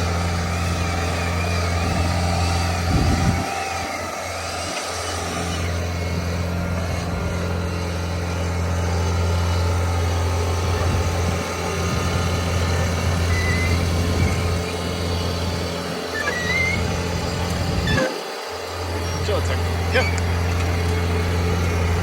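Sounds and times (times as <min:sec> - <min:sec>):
diesel engine running steadily: 0:00.0 - 0:22.0
rake working through soil: 0:00.0 - 0:22.0.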